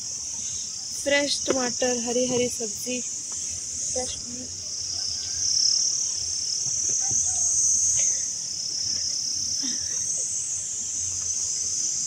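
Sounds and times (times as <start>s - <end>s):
faint rustling of leaves: 0.0s - 12.0s
insects trilling: 0.0s - 12.0s.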